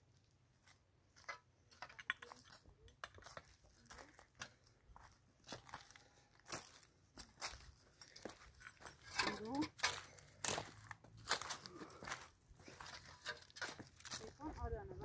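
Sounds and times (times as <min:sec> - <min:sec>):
faint crunching and crackling: 0:00.6 - 0:15.0.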